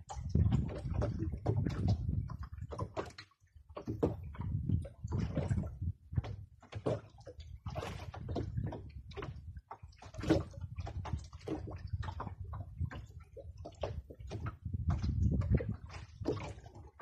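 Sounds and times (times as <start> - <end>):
sea water sloshing against hull: 0.0 - 17.0.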